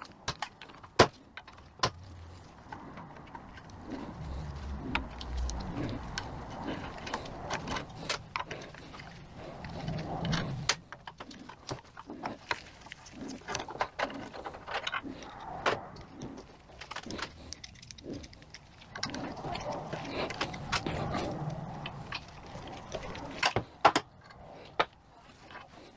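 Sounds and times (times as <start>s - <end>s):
metal parts and tools clinking: 0.0s - 25.8s.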